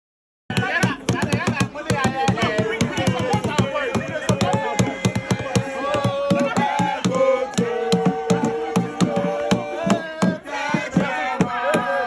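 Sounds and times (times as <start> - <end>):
sharp rhythmic knocks: 0.5 - 12.0
voices singing long notes: 1.9 - 12.0.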